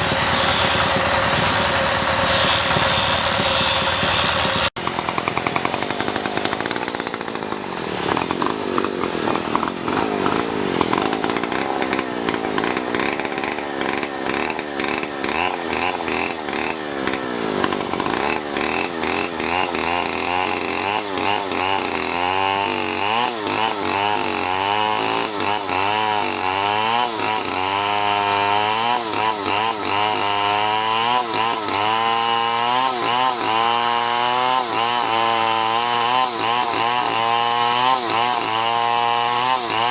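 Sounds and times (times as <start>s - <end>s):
power tool cutting wood: 0.0s - 39.9s.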